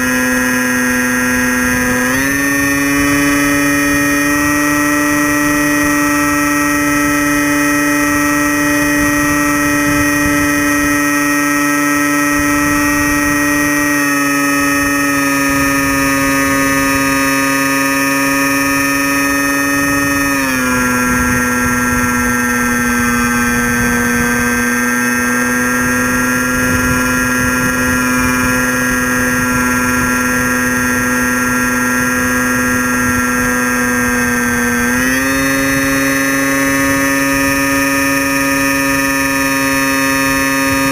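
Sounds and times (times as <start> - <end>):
model plane motor and propeller whining: 0.0 - 40.9.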